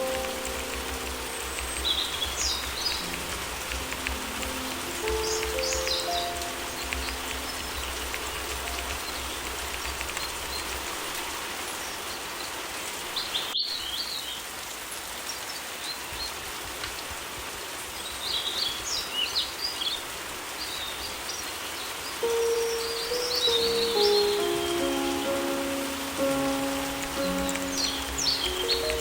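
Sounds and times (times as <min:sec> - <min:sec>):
small birds chirping: 0:00.0 - 0:14.5, 0:18.0 - 0:29.0
steady rain: 0:00.0 - 0:29.0.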